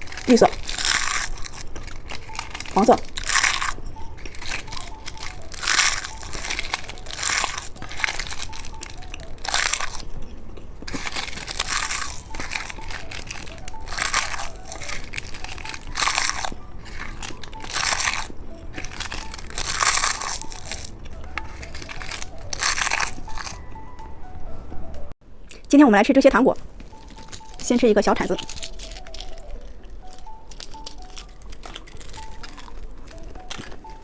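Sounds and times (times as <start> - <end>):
crisp crunching of candy: 0.0 - 23.8, 26.6 - 34.0.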